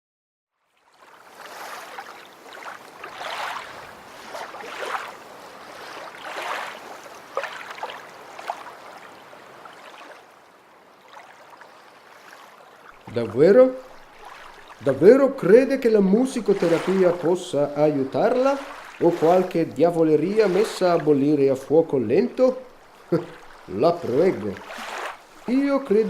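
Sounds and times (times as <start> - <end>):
small water splashes: 0.6 - 26.0
water lapping in swells: 0.6 - 26.0.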